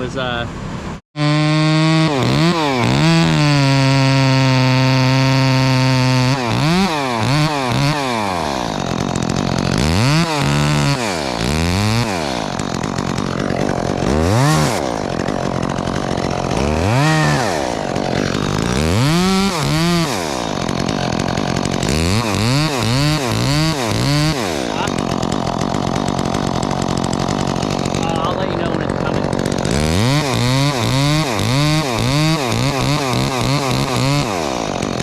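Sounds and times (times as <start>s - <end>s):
chainsaw engine revving: 0.0s - 35.0s.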